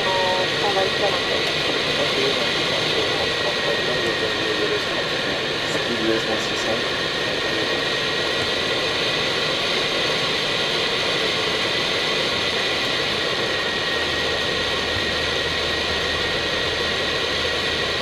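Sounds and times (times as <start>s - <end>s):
airflow and jet engine rush: 0.0s - 18.0s.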